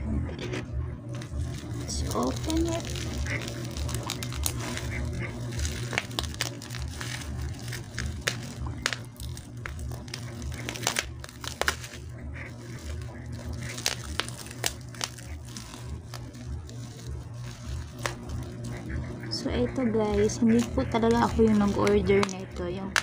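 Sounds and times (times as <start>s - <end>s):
bubble wrap crackling: 1.1s - 23.0s.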